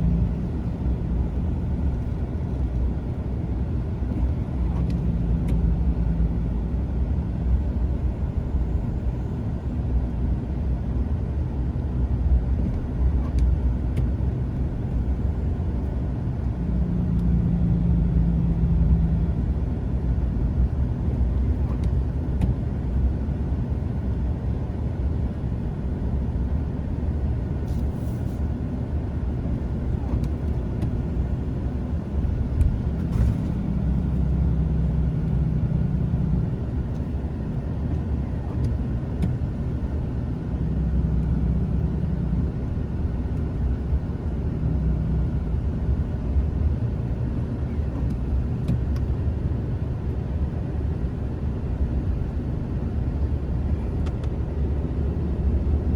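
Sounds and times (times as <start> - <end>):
faint engine hum: 0.0 - 55.9
vehicle engine rumbling: 0.0 - 55.9.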